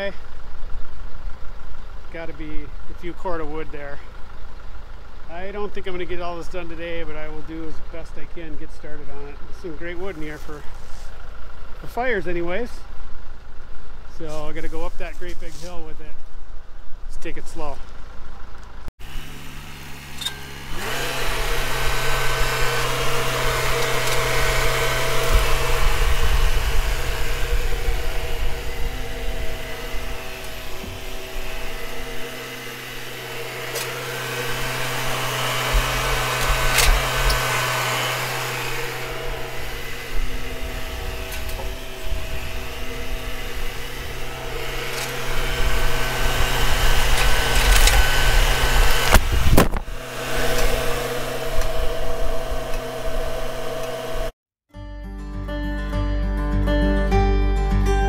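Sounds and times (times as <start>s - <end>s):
tractor diesel engine running: 0.0s - 54.3s.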